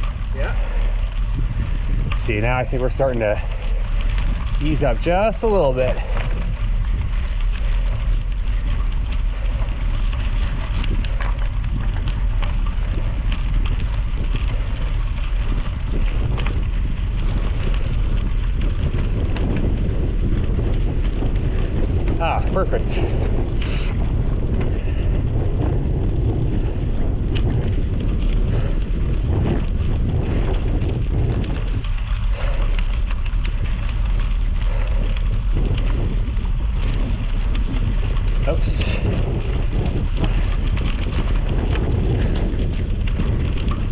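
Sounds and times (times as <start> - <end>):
bicycle tyres on gravel: 0.0 - 43.9
small scattered crackles: 0.0 - 43.9
wind buffeting microphone: 0.0 - 43.9.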